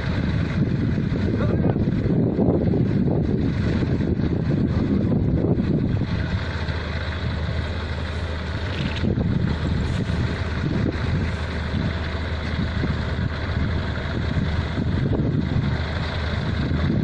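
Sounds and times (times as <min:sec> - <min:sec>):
diesel engine of farm machinery: 0:00.0 - 0:17.0.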